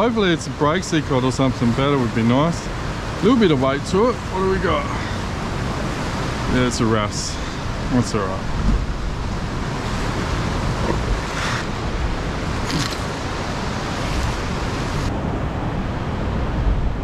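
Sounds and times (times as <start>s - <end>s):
ocean surf breaking on rocks: 0.0s - 17.0s
wind rumbling on microphone: 0.0s - 17.0s.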